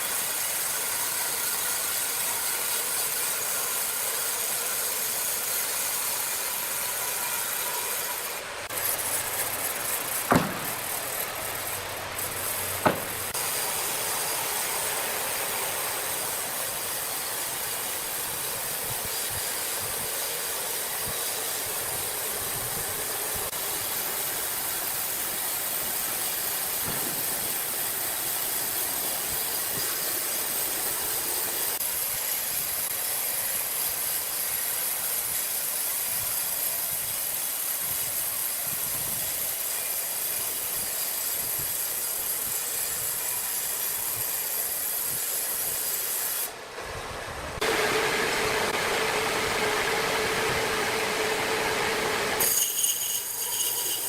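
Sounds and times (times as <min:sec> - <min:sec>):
sawmill machinery hissing: 0:00.0 - 0:54.0.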